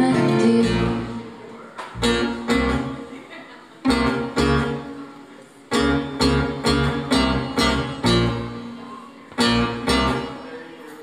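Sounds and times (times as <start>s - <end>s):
acoustic guitar strumming chords: 0.0s - 3.2s, 3.8s - 10.6s.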